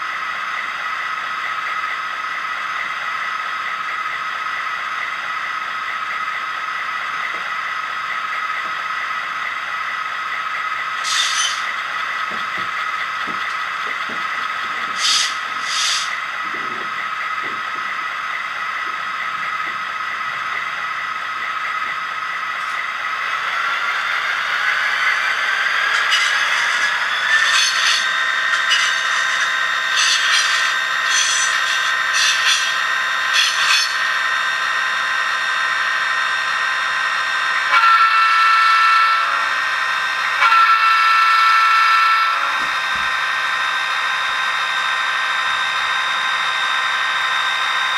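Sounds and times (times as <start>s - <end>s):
model locomotive diesel engine sound: 0.0s - 47.9s.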